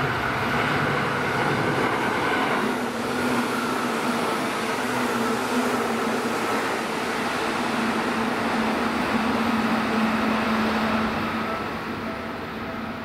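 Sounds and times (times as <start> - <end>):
electric train running: 0.0 - 13.0.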